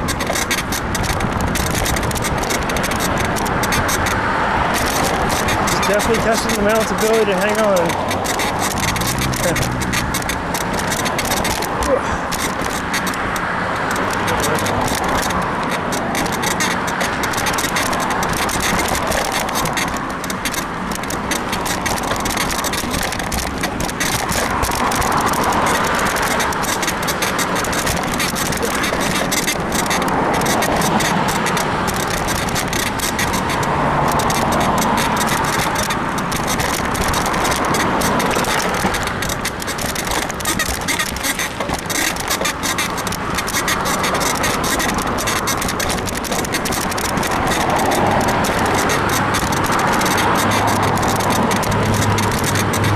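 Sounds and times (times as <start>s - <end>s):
bicycle rattling and knocking: 0.0s - 52.9s
bicycle suspension creaking: 0.0s - 52.9s
bicycle tyre and wind noise: 0.0s - 52.9s.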